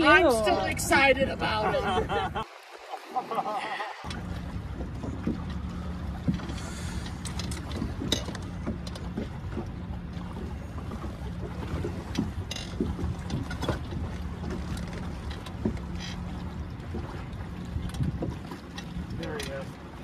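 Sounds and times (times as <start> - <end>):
boat motor hum: 0.0 - 20.0.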